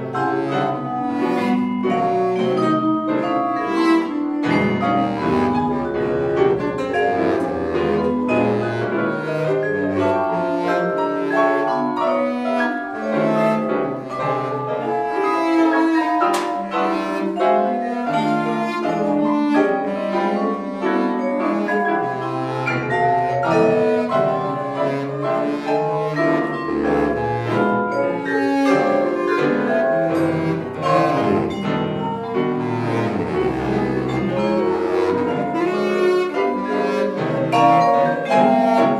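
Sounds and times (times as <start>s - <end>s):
contemporary chamber music: 0.0s - 38.9s.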